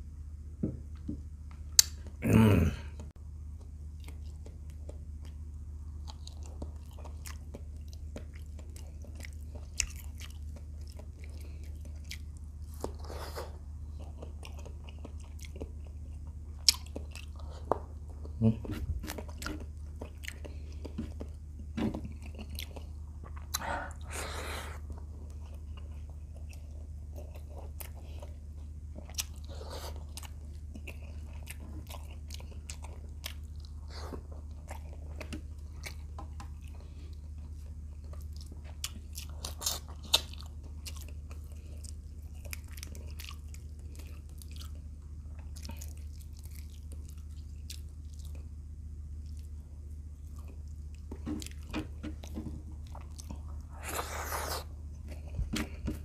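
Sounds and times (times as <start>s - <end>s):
steady low hum: 0.0s - 56.0s
person chewing and biting: 6.0s - 56.0s.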